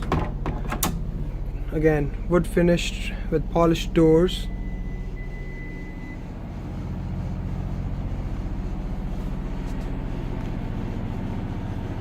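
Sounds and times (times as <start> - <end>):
generator humming: 0.0 - 12.0.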